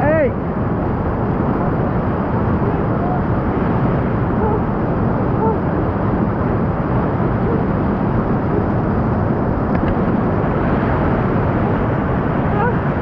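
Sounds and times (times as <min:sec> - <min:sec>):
whitewater rushing through rapid: 0:00.0 - 0:13.0.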